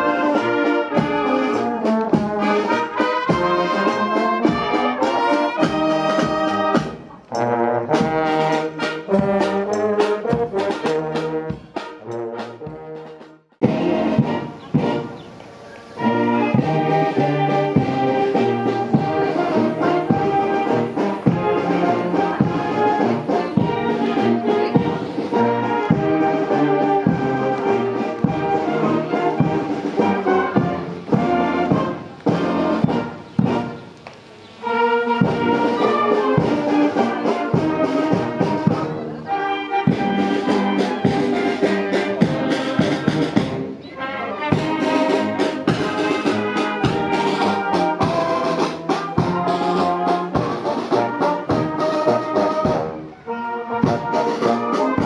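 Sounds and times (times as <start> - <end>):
steady drum beat: 0.0 - 15.2, 16.0 - 43.8, 44.5 - 53.0, 53.7 - 55.0
brass and saxophones playing: 0.0 - 55.0.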